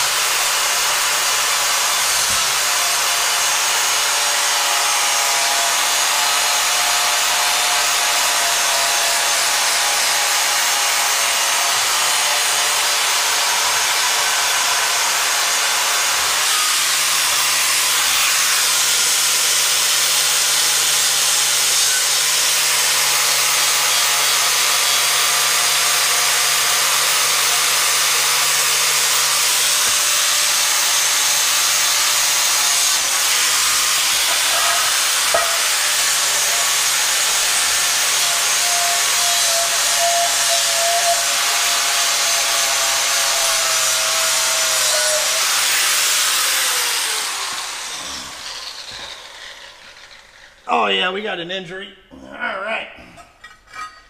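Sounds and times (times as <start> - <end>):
electric grinder on metal: 0.0 - 50.6.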